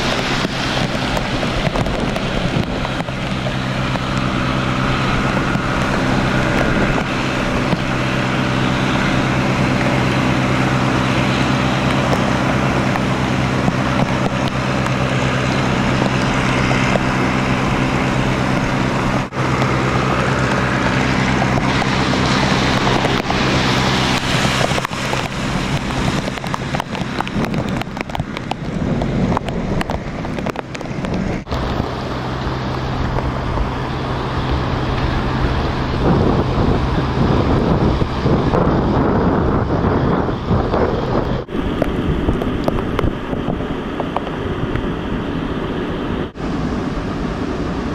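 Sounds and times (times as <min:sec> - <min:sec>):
floodwater rushing in creek: 0:00.0 - 0:47.9
steady low hum: 0:00.0 - 0:47.9
wind buffeting microphone: 0:00.0 - 0:47.9.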